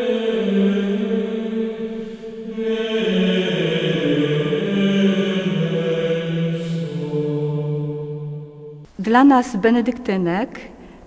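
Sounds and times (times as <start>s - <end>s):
slow sung chant: 0.0s - 9.0s.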